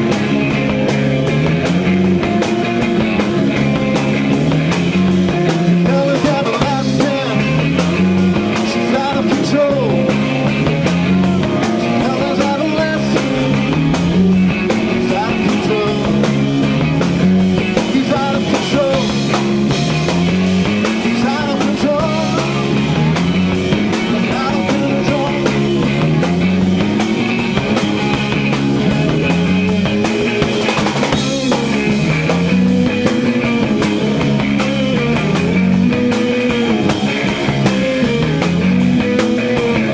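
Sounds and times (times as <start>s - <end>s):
bass guitar rising figure: 0.0s - 39.9s
live rock band playing: 0.0s - 39.9s
steady drumming: 0.0s - 39.9s.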